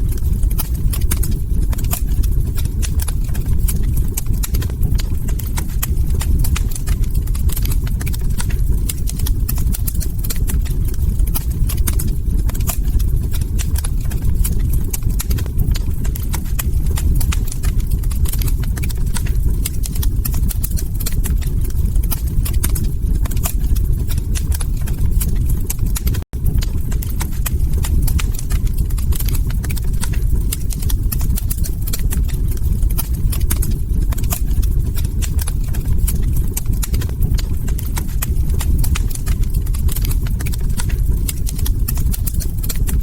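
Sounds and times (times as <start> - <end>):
log fire crackling: 0.0 - 43.0.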